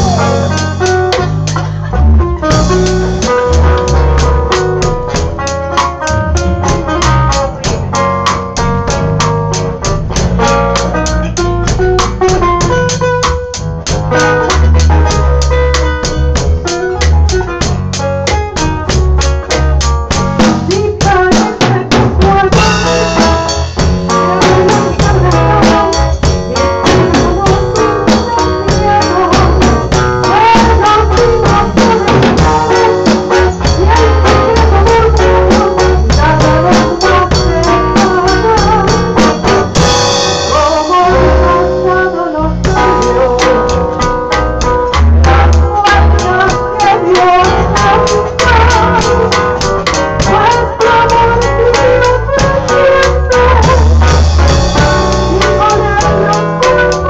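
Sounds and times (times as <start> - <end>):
drum kit beat: 0.0 - 57.0
live band playing loudly: 0.0 - 57.0.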